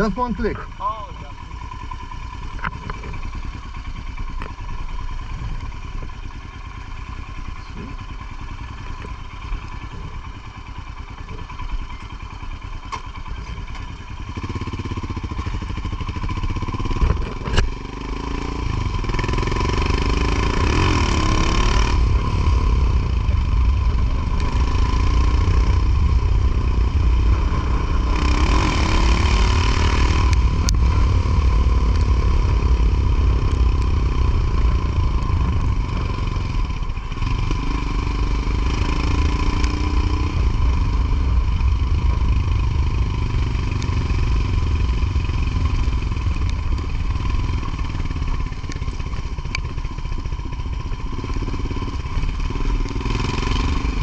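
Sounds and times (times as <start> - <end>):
motorcycle engine and road rumble: 0.0 - 54.0.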